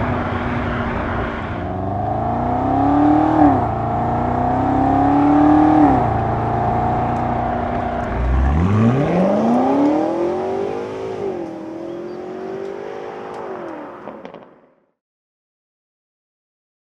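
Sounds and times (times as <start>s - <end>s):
car engine accelerating: 0.0s - 14.6s.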